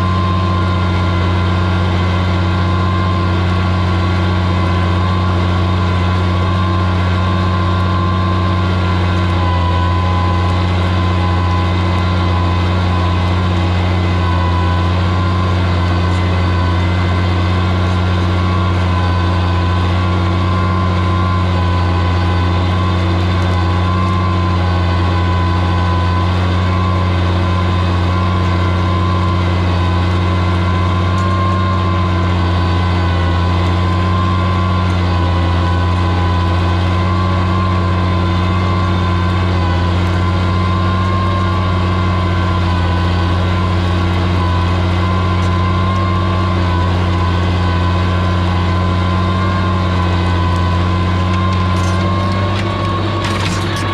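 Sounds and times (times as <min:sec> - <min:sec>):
tractor engine running under load: 0:00.0 - 0:53.9.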